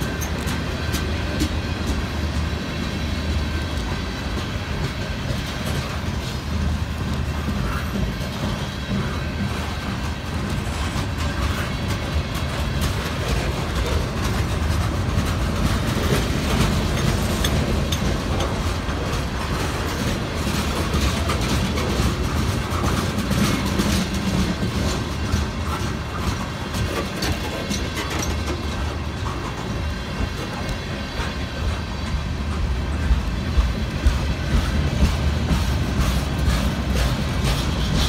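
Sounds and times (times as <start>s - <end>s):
train brakes: 0.0s - 38.0s
train wheels clicking on track: 0.0s - 38.0s.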